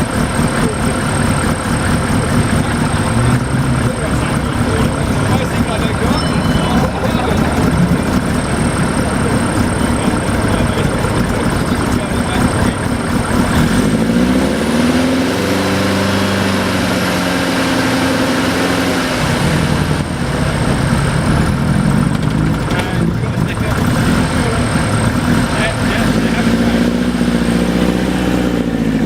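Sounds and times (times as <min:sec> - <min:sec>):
racing car engine revving: 0:00.0 - 0:29.0.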